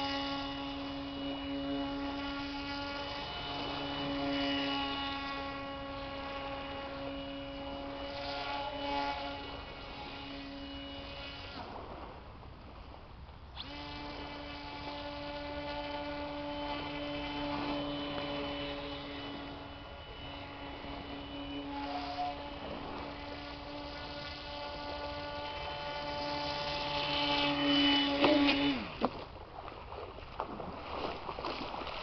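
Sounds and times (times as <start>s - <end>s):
model airboat motor buzzing: 0.0s - 32.0s.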